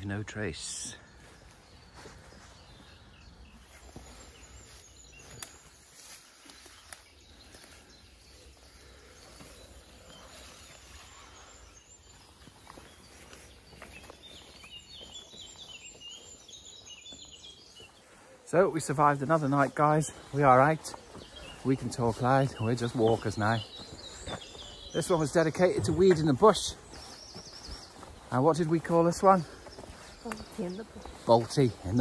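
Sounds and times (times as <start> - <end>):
birds chirping: 0.0 - 32.0
footsteps through undergrowth: 0.7 - 32.0.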